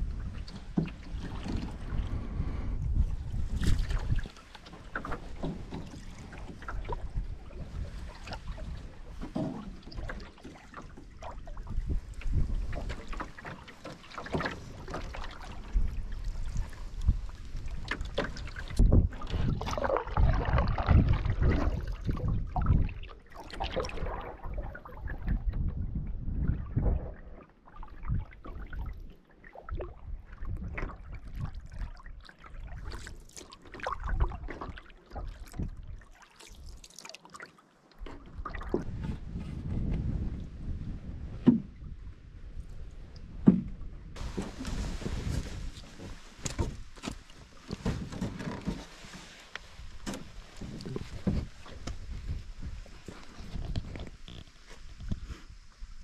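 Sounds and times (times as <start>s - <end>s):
water lapping against hull: 0.0s - 56.0s
paddle strokes splashing: 0.2s - 25.3s, 27.2s - 40.0s, 43.2s - 56.0s.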